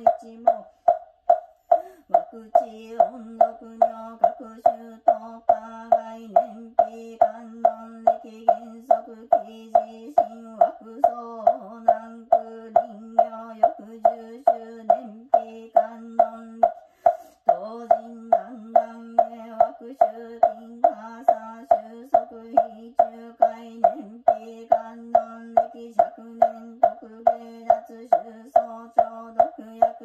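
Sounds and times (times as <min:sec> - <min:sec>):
monotone chanting: 0:00.0 - 0:30.0
wooden fish drum strikes: 0:00.0 - 0:30.0.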